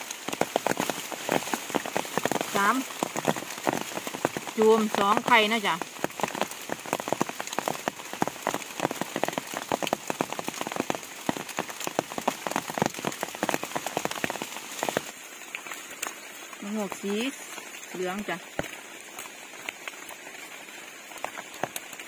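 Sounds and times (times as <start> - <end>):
rain pattering on leaves: 0.0 - 22.0.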